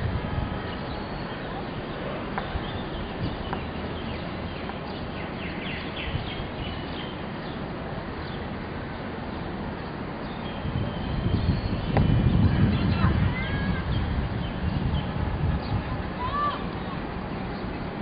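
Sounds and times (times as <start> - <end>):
open-air ambient noise: 0.0 - 18.0.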